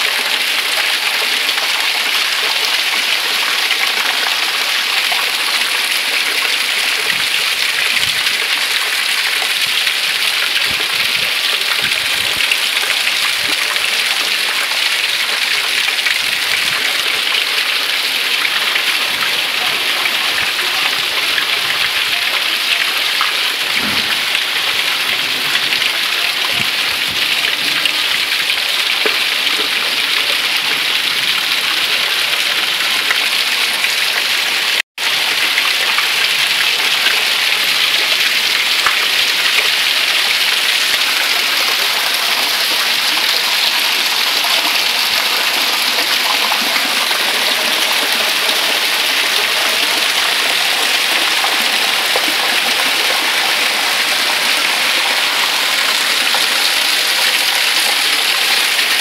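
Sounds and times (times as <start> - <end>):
heavy rain on stone street: 0.0 - 59.0.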